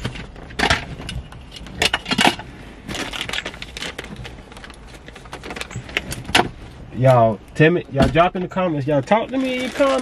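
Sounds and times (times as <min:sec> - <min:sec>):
trash rustling and crinkling: 0:00.0 - 0:07.3, 0:08.0 - 0:10.0.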